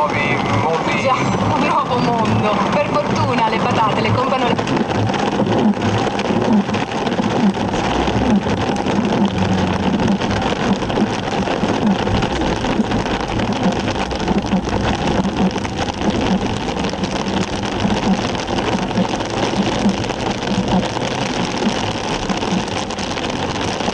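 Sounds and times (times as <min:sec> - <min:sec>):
heavy rain on hard surfaces: 0:00.0 - 0:23.9.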